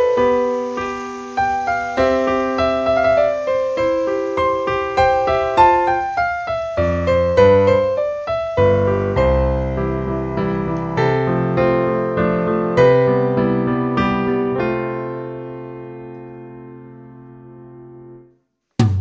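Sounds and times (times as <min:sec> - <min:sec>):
piano music: 0:00.0 - 0:18.4.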